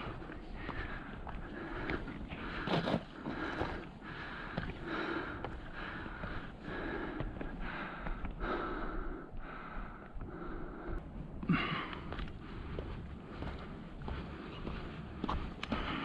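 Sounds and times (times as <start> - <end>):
person breathing close up: 0.0 - 16.0.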